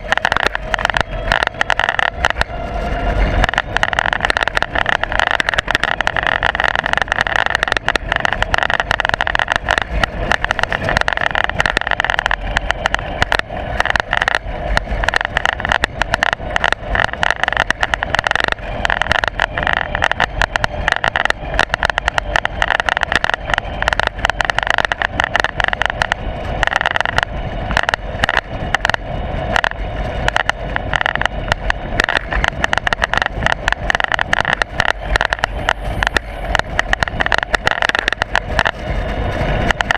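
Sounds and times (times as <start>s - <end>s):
rapid irregular clicks and knocks: 0.0s - 39.9s.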